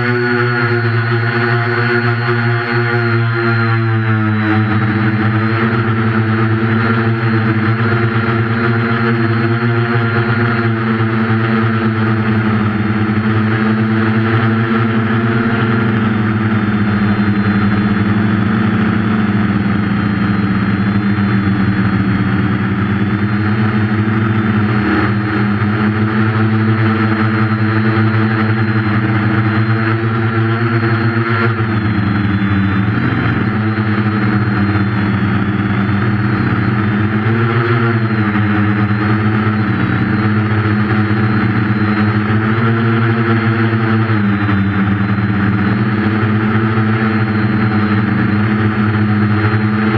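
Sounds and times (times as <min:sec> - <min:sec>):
drone propellers humming: 0:00.0 - 0:49.9.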